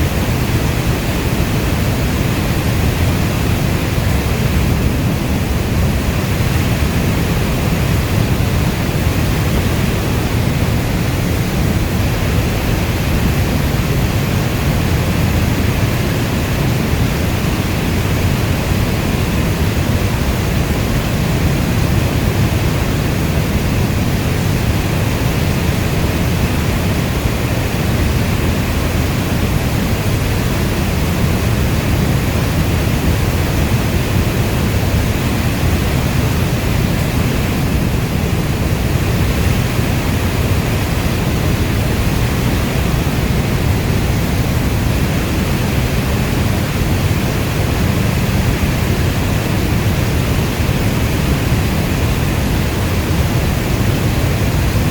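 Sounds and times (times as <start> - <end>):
heavy rainfall: 0.0 - 54.9.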